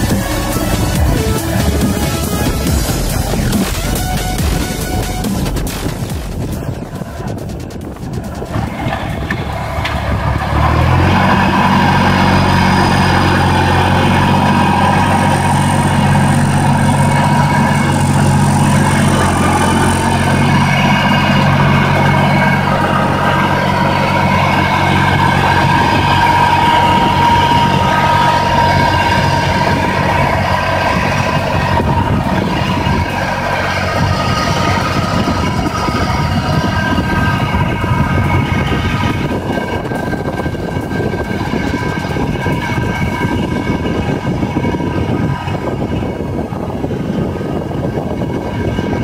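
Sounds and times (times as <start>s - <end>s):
steady whine: 0.0s - 49.0s
tractor engine under load: 0.0s - 49.0s.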